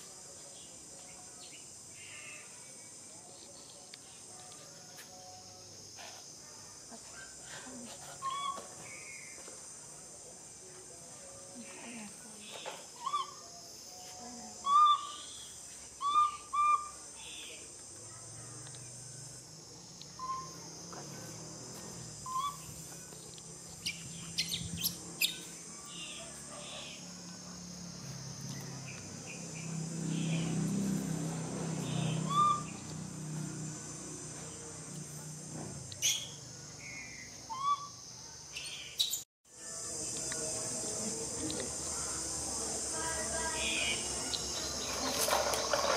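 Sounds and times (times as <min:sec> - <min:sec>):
high drone of insects: 0:00.0 - 0:45.9.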